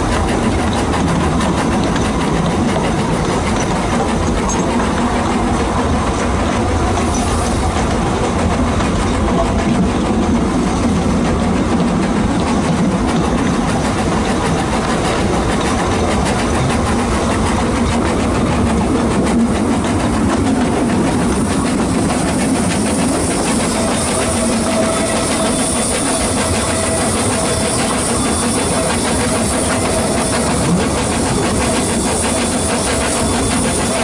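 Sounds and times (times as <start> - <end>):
steam locomotive working: 0.0 - 34.0
train wheels on rail: 0.0 - 34.0.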